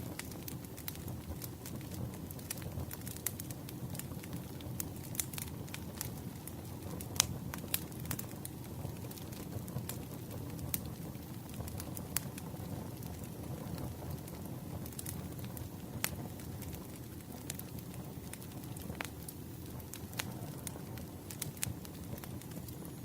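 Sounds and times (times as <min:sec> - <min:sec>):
burning wood crackling and popping: 0:00.0 - 0:23.0
campfire flames rumbling: 0:00.0 - 0:23.0.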